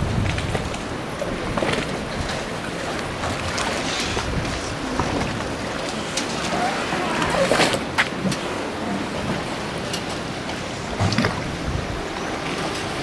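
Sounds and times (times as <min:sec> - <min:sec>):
water lapping: 0:00.0 - 0:13.0
wind: 0:00.0 - 0:13.0.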